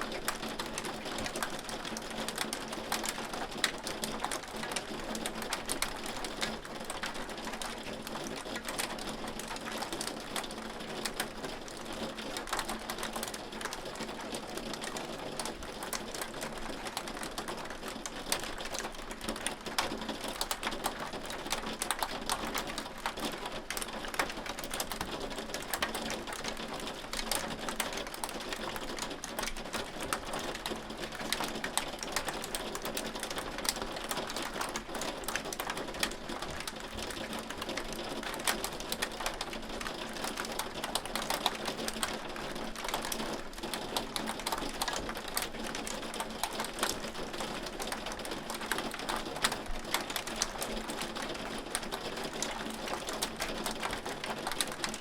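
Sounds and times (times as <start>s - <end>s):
hail clicking on hard surface: 0.1s - 55.0s.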